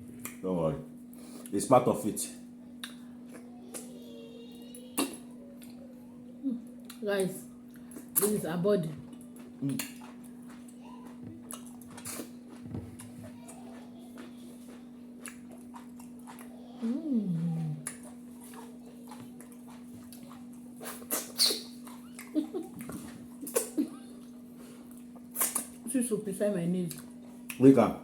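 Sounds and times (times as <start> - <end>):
steady low hum: 0.0 - 28.0
chewing and handling food: 2.7 - 25.9, 26.8 - 27.7.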